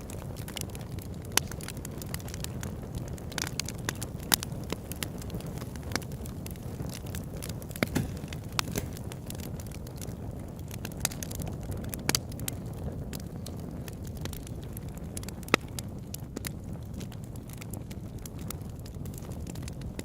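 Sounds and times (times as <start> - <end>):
burning wood popping and snapping: 0.0 - 20.0
campfire crackling: 0.0 - 20.0
low rush of flame: 0.0 - 20.0.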